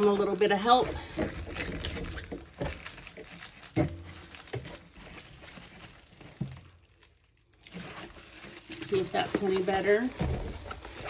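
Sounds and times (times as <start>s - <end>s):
canvas and film rustling: 0.0s - 11.0s.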